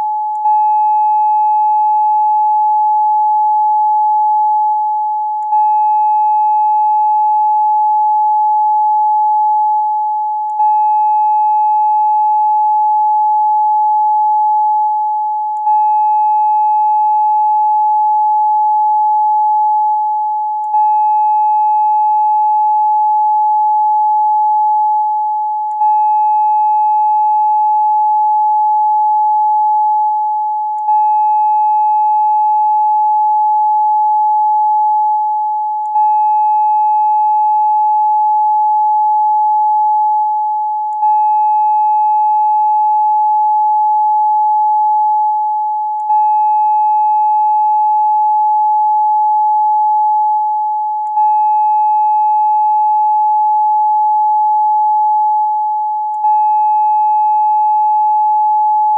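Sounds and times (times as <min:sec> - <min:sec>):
steady pure tone: 0:00.0 - 0:58.9.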